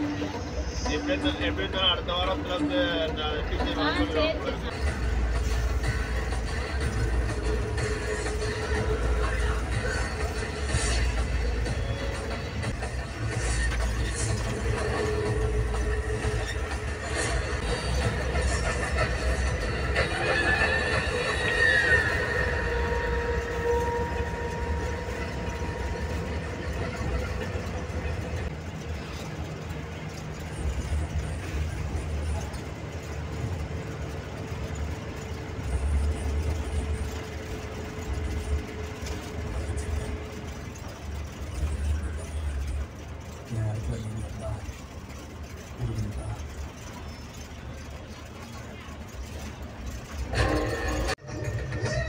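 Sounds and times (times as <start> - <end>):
bus engine running: 0.0 - 52.0
road rumble: 0.0 - 52.0.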